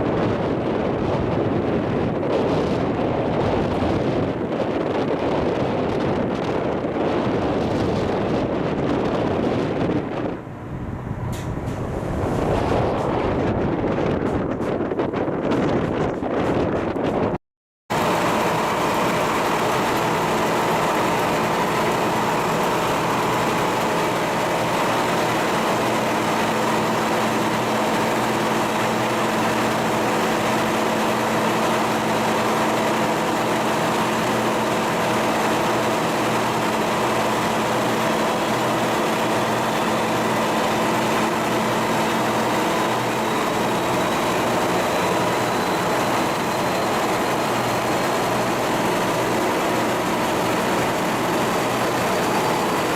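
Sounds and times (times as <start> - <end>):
diesel engine machinery drone: 0.0 - 16.4, 17.9 - 52.9.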